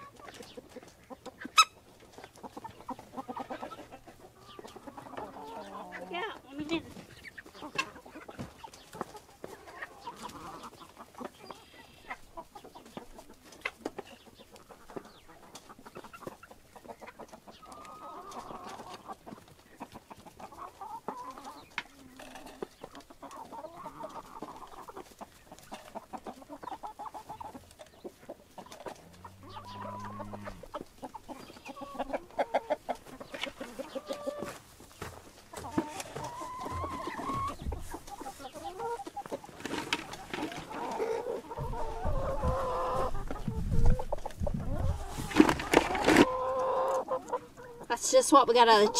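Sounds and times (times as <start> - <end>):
hens clucking: 0.0 - 48.9.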